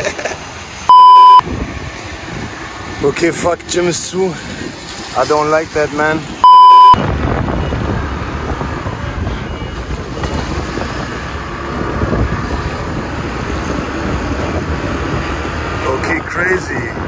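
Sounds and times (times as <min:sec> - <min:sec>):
wind rushing over microphone: 0:01.4 - 0:03.7, 0:04.4 - 0:17.0.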